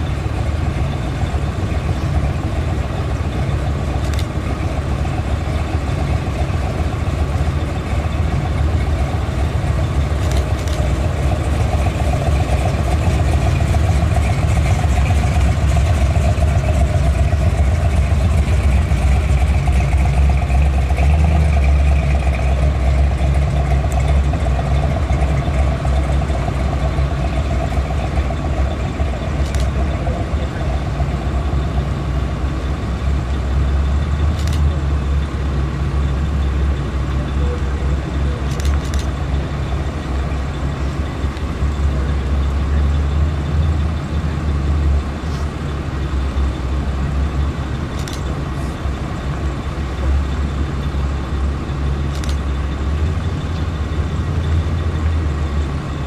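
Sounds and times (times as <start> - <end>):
vehicles driving slowly past: 0.0 - 56.0.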